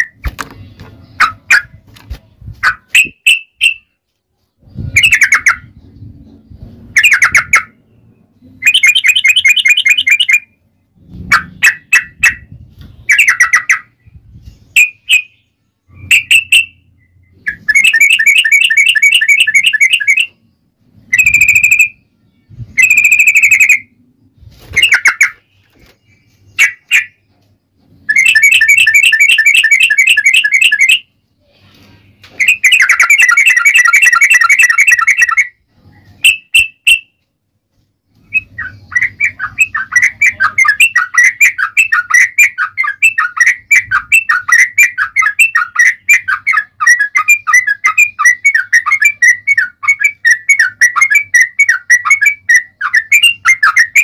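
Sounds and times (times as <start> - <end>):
bulbul singing with trills: 4.6 - 31.2, 32.3 - 37.2, 38.1 - 54.0.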